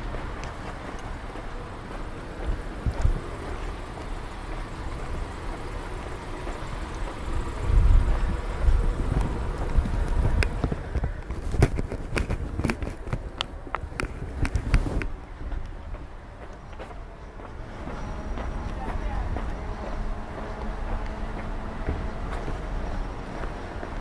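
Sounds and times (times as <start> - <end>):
low street rumble: 0.0 - 24.0.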